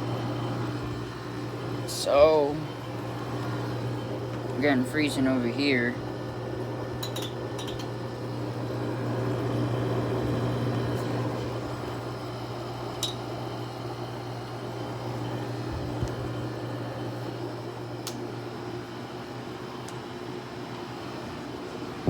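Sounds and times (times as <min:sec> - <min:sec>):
air conditioner compressor hum: 0:00.0 - 0:22.0
fan airflow: 0:00.0 - 0:22.0.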